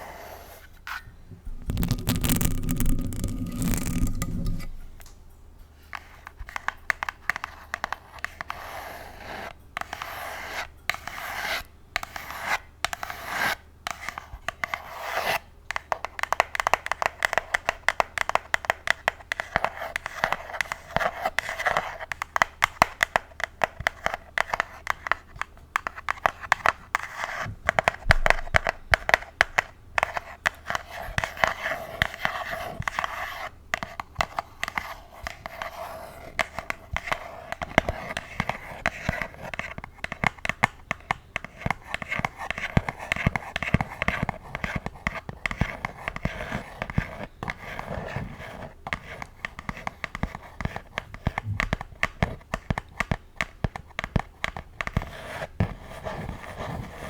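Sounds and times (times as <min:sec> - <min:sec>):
fake nails scratching a box: 0:00.0 - 0:04.8, 0:06.5 - 0:57.0.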